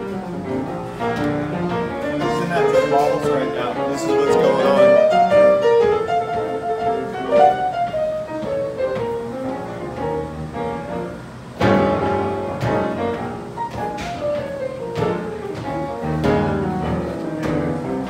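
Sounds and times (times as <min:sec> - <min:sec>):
instrumental melody: 0:00.0 - 0:18.0.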